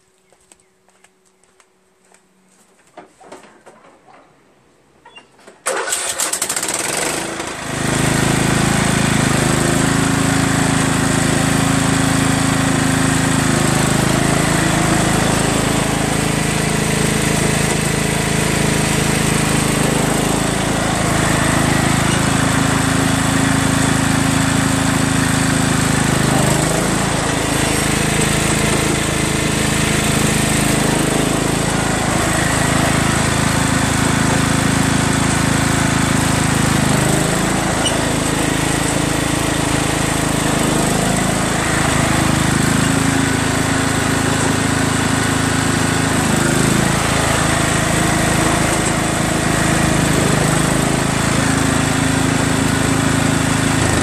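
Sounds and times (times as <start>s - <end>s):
lawn tractor engine starting: 3.2s - 54.0s.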